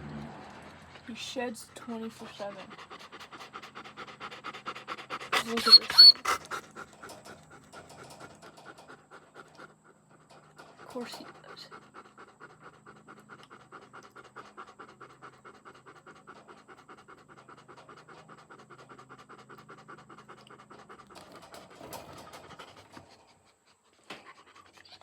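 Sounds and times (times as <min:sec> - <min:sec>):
dog panting quickly: 0:00.1 - 0:25.0.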